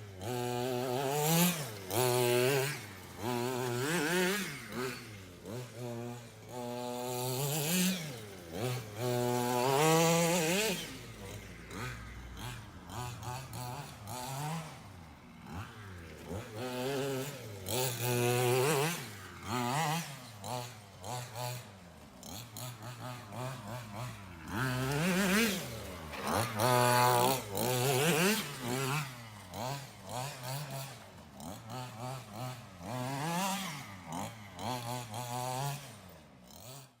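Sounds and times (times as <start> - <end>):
small two-stroke engine revving: 0.0 - 37.0.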